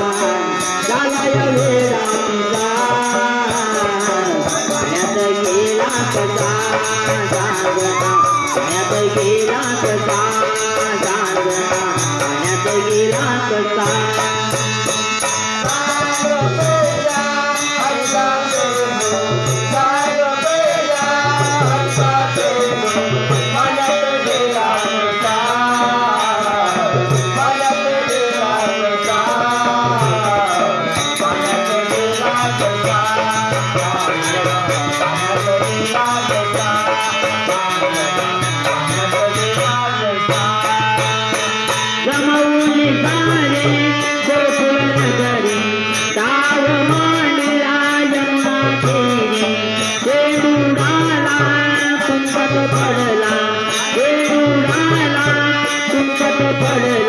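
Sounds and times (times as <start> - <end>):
fast percussion beat: 0.0 - 57.0.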